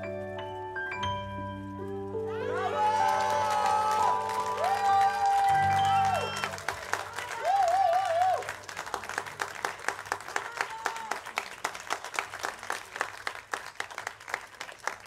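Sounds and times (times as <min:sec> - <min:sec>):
audience applauding: 0:02.1 - 0:15.0.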